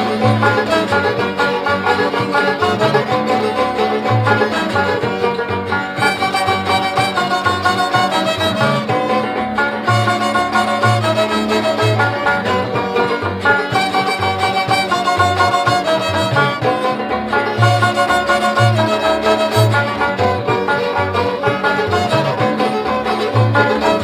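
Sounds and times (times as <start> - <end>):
fiddle music with bass line: 0.0 - 24.0.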